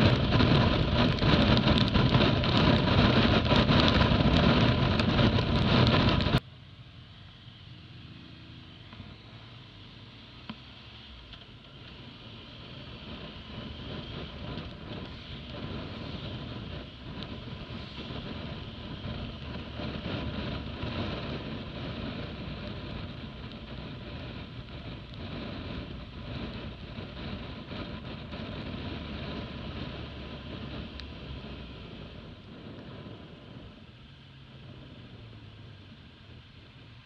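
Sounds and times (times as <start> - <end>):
wind noise on microphone: 0.0 - 6.4, 11.1 - 37.0
motorcycle engine running: 0.0 - 37.0.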